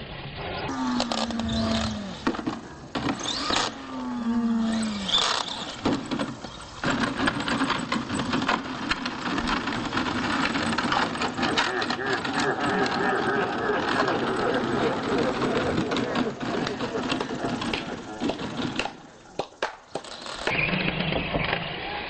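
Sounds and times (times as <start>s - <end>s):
toy truck motors whining: 0.4s - 22.0s.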